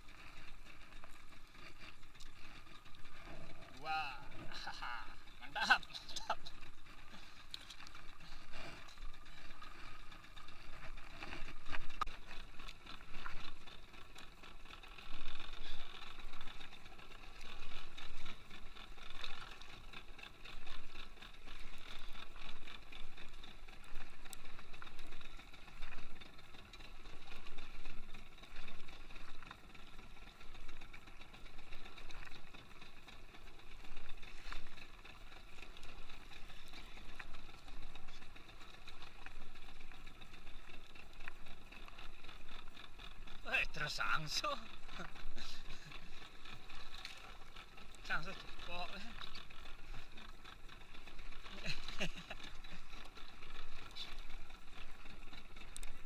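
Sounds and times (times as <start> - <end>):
boat engine idling: 0.0 - 56.0.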